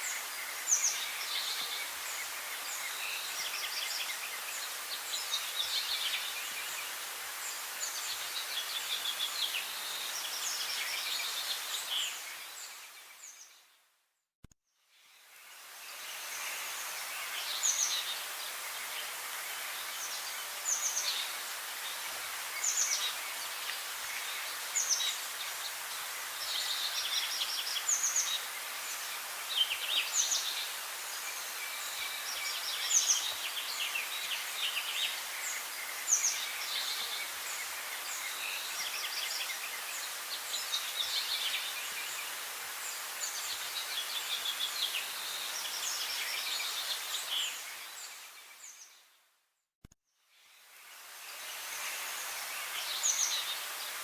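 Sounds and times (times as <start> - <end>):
steady hiss: 0.0 - 13.5, 14.9 - 49.0, 50.3 - 54.0.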